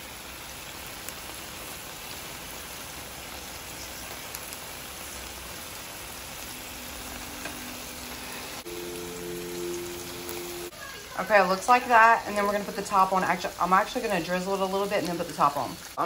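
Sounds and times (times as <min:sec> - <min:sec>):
chicken sizzling in a frying pan: 0:00.0 - 0:16.0.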